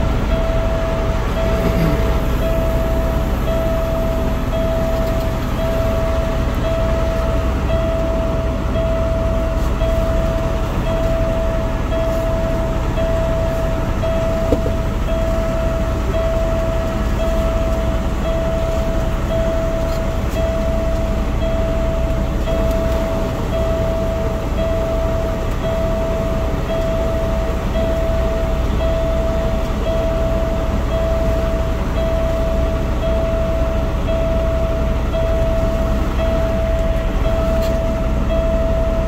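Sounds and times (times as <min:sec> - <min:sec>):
reverse backup alarm beeping: 0:00.0 - 0:39.0
truck diesel engine rumble: 0:00.0 - 0:39.0.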